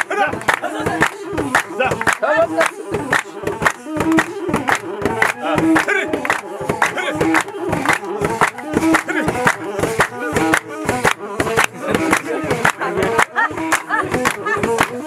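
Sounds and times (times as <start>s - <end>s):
crowd singing: 0.0s - 15.0s
hands clapping rhythmically: 0.0s - 15.0s.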